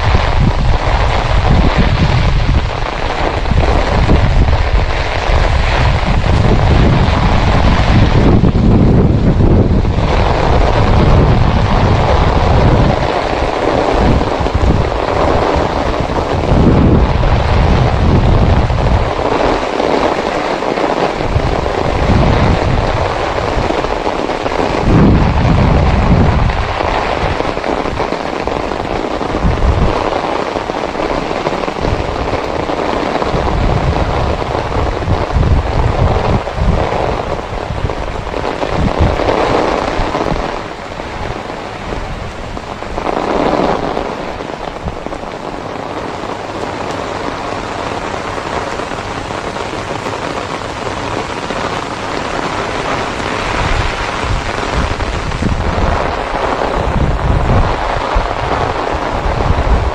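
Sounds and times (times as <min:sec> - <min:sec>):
heavy rain falling: 0:00.0 - 0:59.9
wind buffeting microphone: 0:00.0 - 0:59.9.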